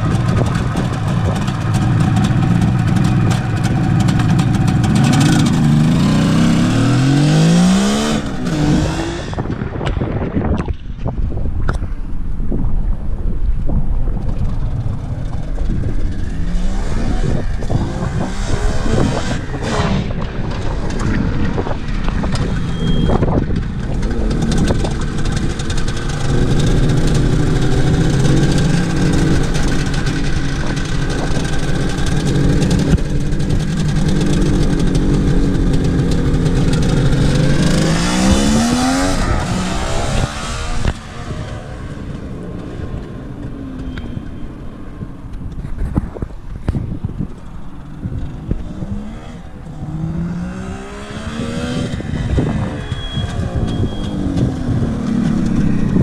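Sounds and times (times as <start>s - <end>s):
motorcycle engine revving: 0.0s - 10.5s, 14.2s - 46.2s, 46.8s - 56.0s.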